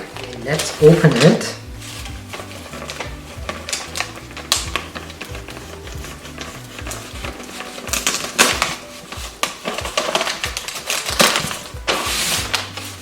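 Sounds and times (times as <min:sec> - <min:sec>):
background music: 0:00.0 - 0:13.0
cardboard packaging rustling: 0:00.0 - 0:13.0.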